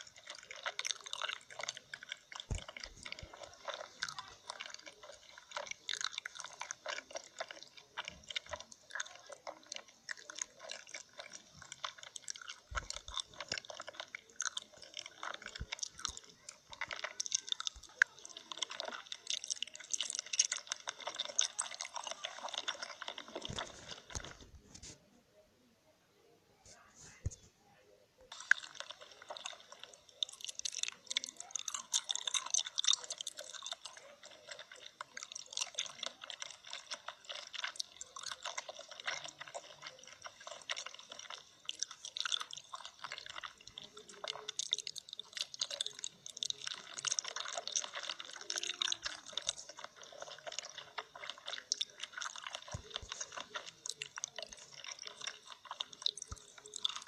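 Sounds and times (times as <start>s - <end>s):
rapid dense crackling and clicking: 0.0s - 25.0s, 28.3s - 57.0s.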